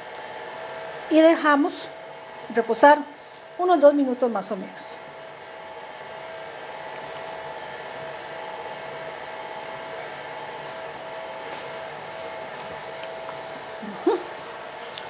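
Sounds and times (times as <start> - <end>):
electric stand mixer running: 0.0 - 14.9.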